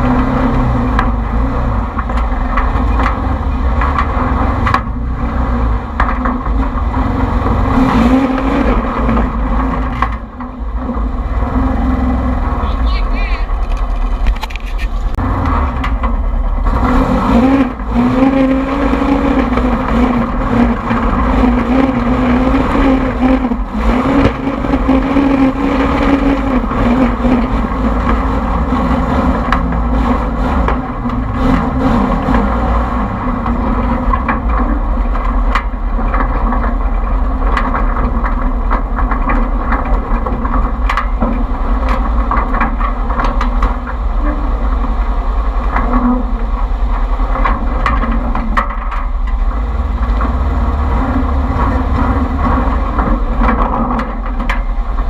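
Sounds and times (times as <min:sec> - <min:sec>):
chassis knocks and clatter: 0:00.0 - 0:12.6, 0:13.5 - 0:55.0
engine running under load: 0:00.0 - 0:55.0.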